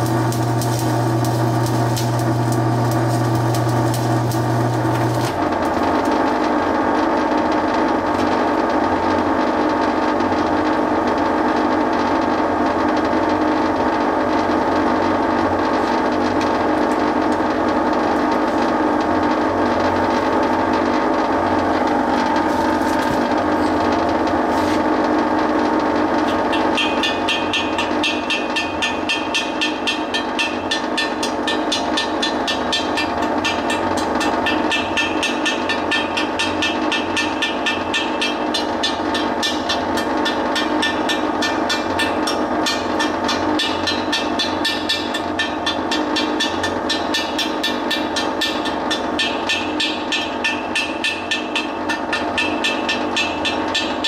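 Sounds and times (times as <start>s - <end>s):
welder cooling fan racket: 0.0s - 54.0s.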